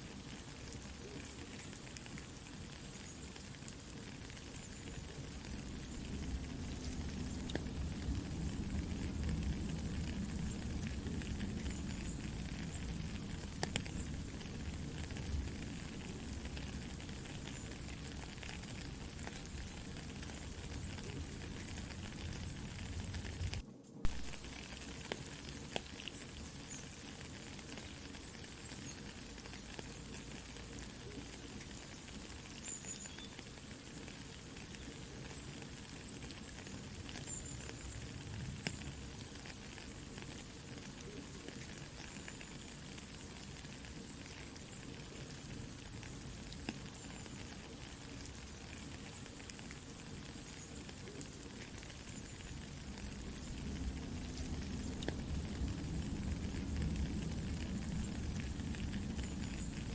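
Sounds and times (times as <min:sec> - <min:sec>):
campfire crackling: 0:00.0 - 0:59.9
soft rain falling: 0:00.0 - 0:59.9.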